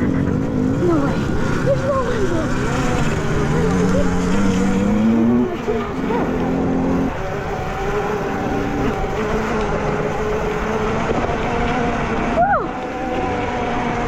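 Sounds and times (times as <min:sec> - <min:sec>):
dirt bike motors racing: 0:00.0 - 0:14.0.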